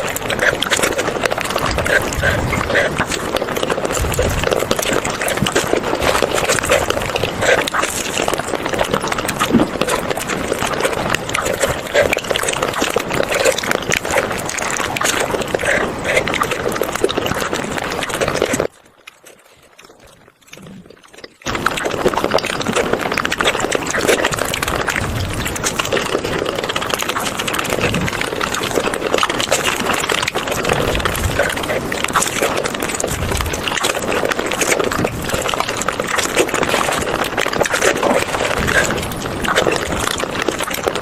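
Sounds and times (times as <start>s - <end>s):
wet chewing and slurping: 0.0s - 41.0s.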